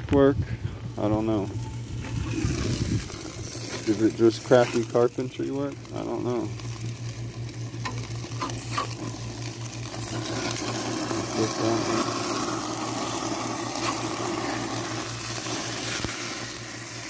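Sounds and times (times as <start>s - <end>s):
patties sizzling on a grill: 0.1s - 17.0s.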